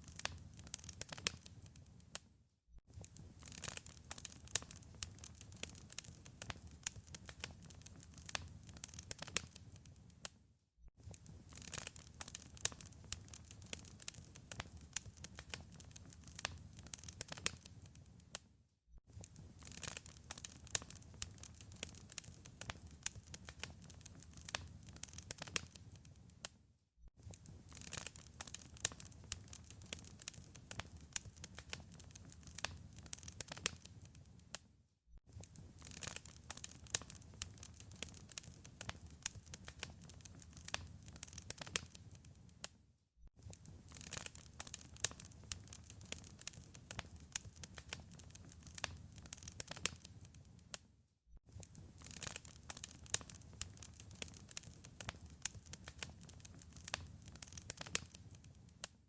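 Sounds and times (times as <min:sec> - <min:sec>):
wood fire crackling and popping: 0:00.0 - 0:02.2, 0:02.9 - 0:10.3, 0:11.0 - 0:18.4, 0:19.1 - 0:26.5, 0:27.2 - 0:34.4, 0:35.3 - 0:42.7, 0:43.4 - 0:50.8, 0:51.5 - 0:58.9.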